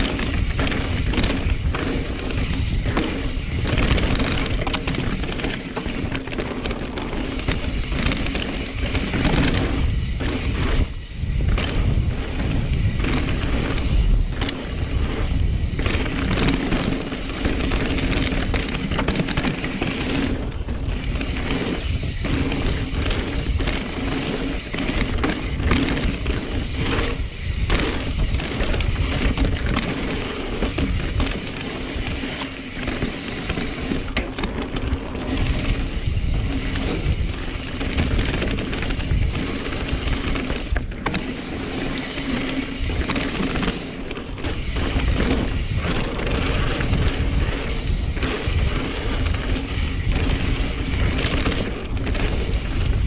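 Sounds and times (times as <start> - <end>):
wind on microphone: 0.0 - 6.2, 7.1 - 53.0
bike rattling: 0.0 - 53.0
freewheel clicking: 0.0 - 53.0
tyres rolling on dirt trail: 0.0 - 53.0.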